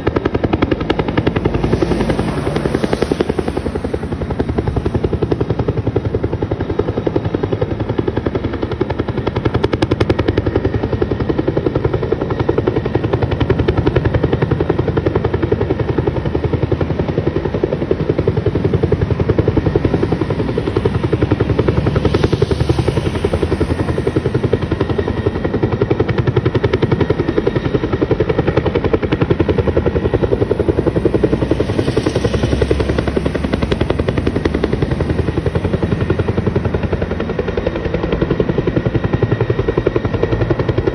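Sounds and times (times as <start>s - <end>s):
helicopter rotor chopping: 0.0s - 40.9s.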